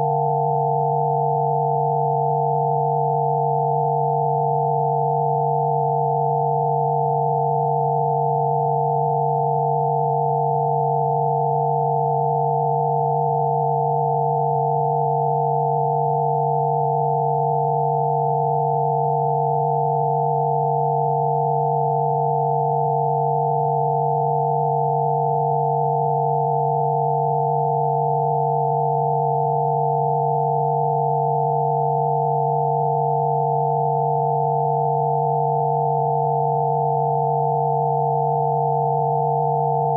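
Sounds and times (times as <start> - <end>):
synthesized sine tones: 0.0 - 39.9.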